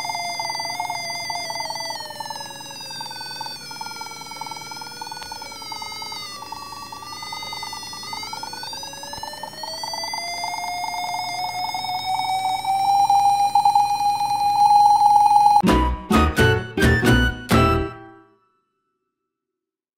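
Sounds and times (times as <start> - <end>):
electronic tone sliding in pitch: 0.0 - 18.1.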